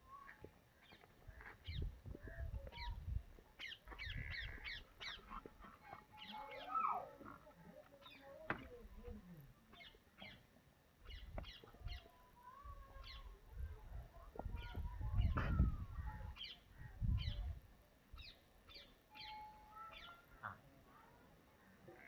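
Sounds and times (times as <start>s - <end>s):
birds chirping: 0.0s - 17.6s, 18.2s - 22.0s.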